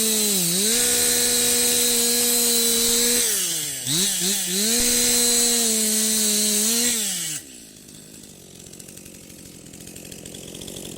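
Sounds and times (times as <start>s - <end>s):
chainsaw engine revving and idling: 0.0s - 10.9s.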